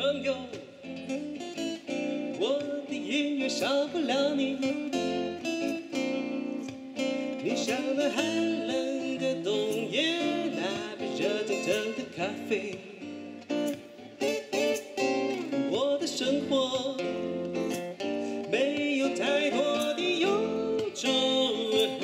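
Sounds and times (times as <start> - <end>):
man singing: 0.0 - 13.4, 14.1 - 22.0
acoustic guitars strummed: 0.0 - 22.0.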